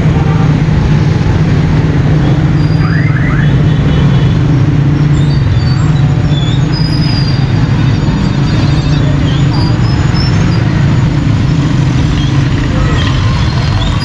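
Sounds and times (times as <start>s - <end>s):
motorcycle engines: 0.0s - 14.0s
street traffic drone: 0.0s - 14.0s.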